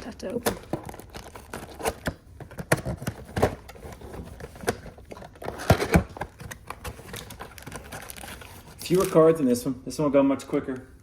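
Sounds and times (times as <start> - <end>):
cardboard scraping and crinkling: 0.7 - 9.6.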